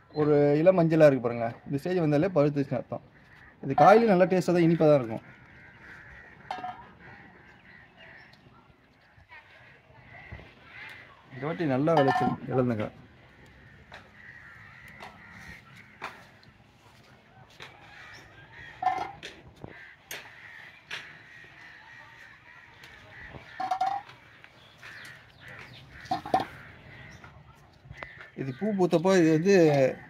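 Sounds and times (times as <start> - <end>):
crow cawing: 3.0 - 29.0.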